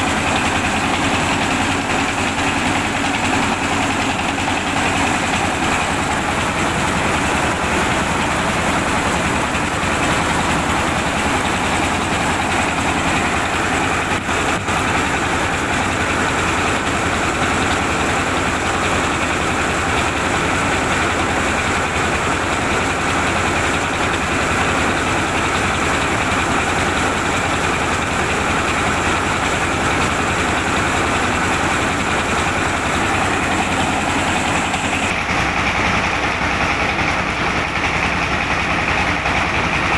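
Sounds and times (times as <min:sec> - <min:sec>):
engine rumble: 0:00.0 - 0:39.9
milling machinery whirring: 0:00.0 - 0:39.9.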